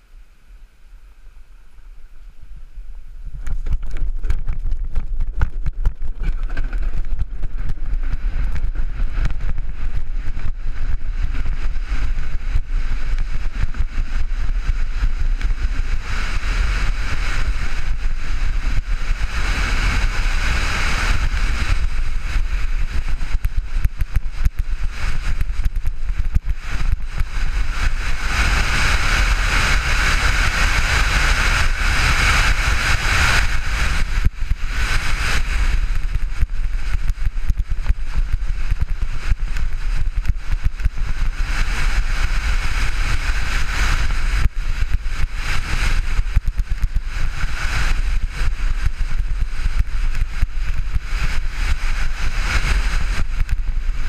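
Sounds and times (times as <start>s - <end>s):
low rumble of wind: 0.0s - 54.0s.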